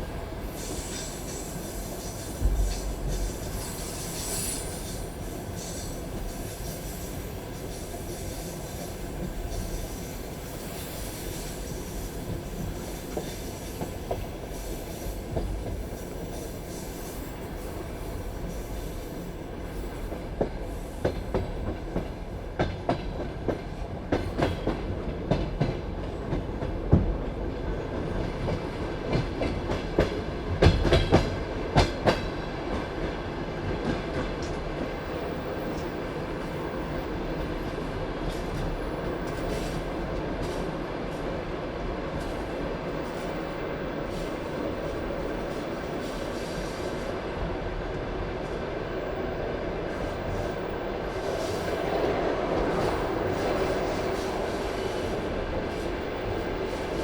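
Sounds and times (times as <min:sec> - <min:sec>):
train wheels clacking on track: 0:00.0 - 0:47.2
train wheels rolling rumble: 0:00.0 - 0:57.0.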